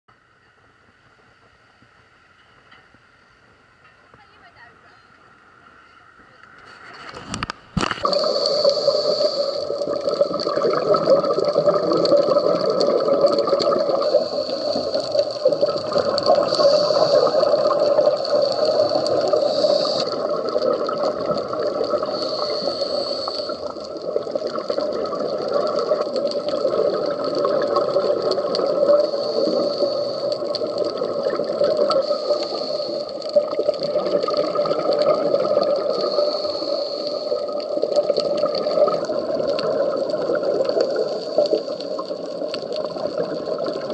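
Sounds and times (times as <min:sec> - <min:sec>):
muffled underwater water rush: 0:05.2 - 0:43.9.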